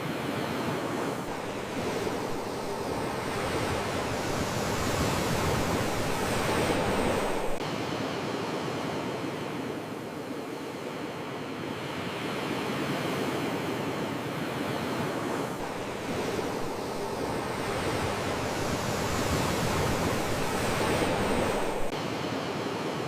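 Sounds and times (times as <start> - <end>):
ocean waves washing on shore: 0.0 - 23.0.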